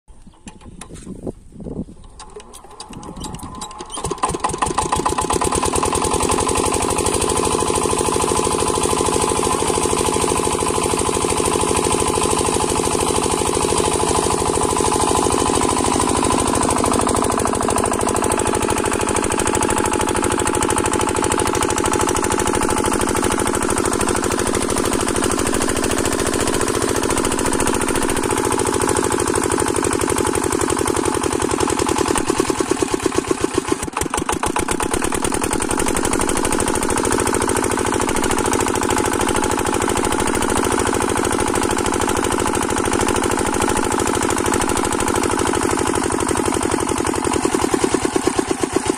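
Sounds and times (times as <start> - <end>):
diesel engine chugging: 3.0 - 48.9.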